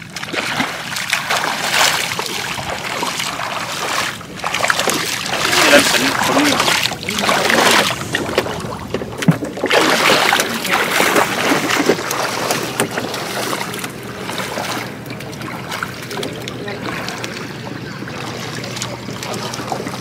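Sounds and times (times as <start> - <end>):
floodwater splashing and sloshing: 0.0 - 20.0.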